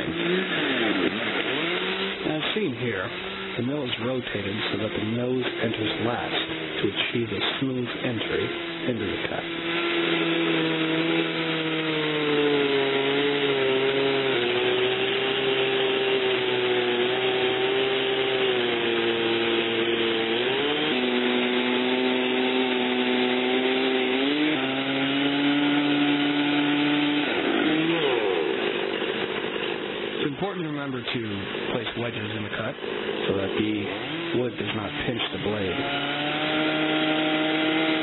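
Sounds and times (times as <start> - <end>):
chainsaw cutting through log: 0.0 - 38.0.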